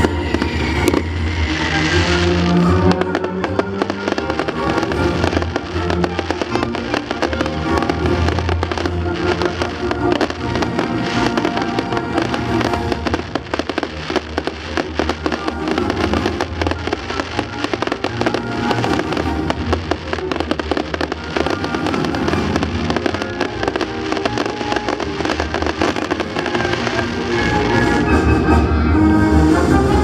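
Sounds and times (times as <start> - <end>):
fireworks crackling and popping: 0.0 - 28.7
music soundtrack: 0.0 - 30.0.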